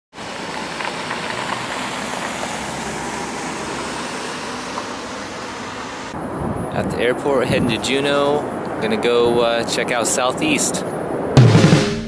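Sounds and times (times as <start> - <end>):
road traffic drone: 0.1 - 12.0.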